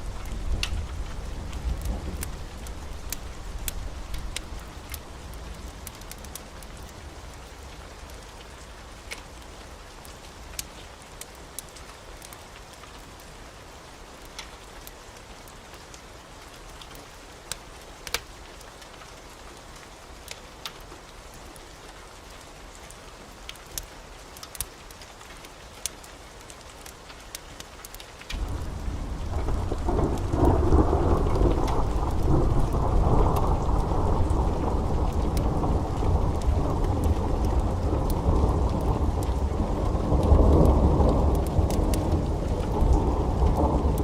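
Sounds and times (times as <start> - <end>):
steady rain: 0.0 - 44.0.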